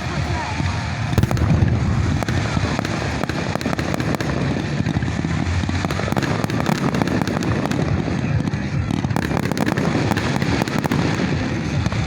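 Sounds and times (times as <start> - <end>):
low rumble of bangs: 0.0 - 10.1
fireworks crackling bursts: 0.0 - 12.0.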